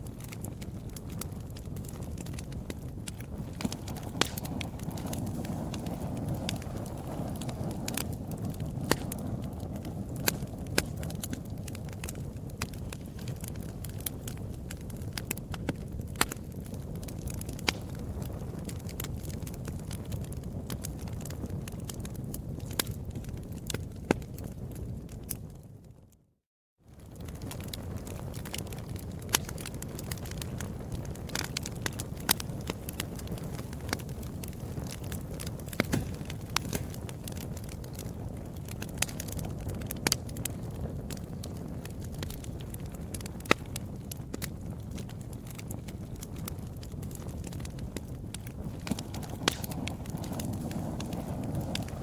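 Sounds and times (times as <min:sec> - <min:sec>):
flames rumbling: 0:00.0 - 0:26.2, 0:26.9 - 0:52.0
fire crackling and popping: 0:00.0 - 0:52.0.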